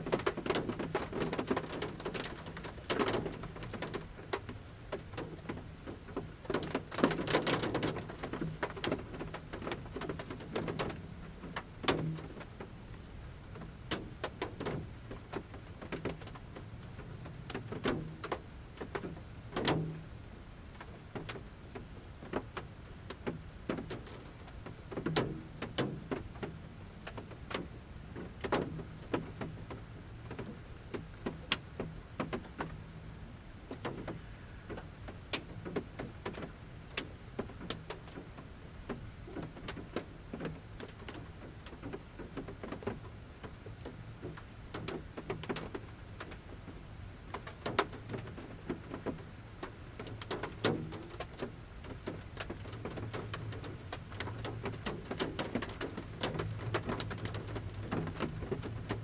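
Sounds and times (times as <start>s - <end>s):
raindrops pattering on van roof: 0.0s - 59.0s.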